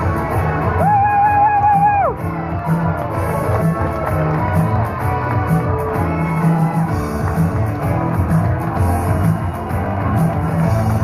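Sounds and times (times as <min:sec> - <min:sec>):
loud rock music with bass: 0:00.0 - 0:11.0.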